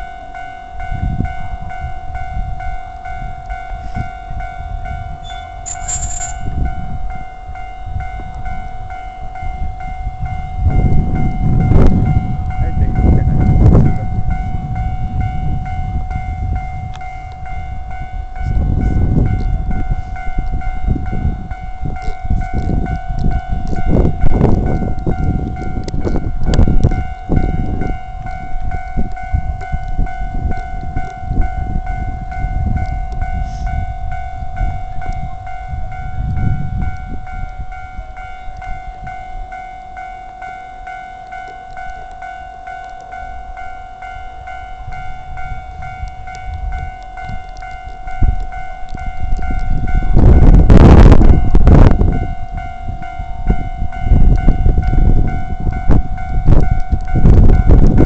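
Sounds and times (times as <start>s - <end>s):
level-crossing warning bell: 0.0s - 58.0s
trains rumbling past: 0.0s - 58.0s.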